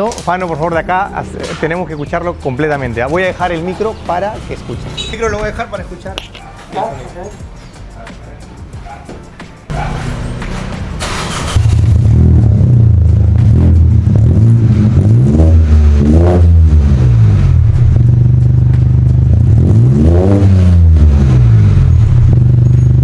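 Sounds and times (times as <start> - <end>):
car engine idling and revving: 0.8 - 23.0.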